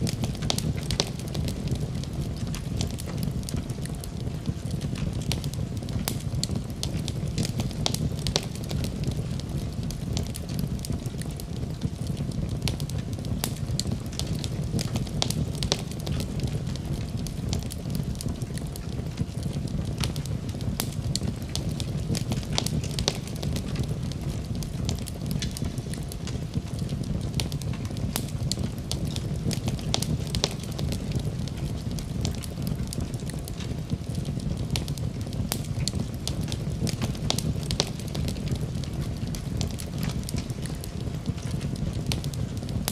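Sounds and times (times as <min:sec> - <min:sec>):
fire crackling and popping: 0:00.0 - 0:42.9
fire rumbling: 0:00.0 - 0:42.9.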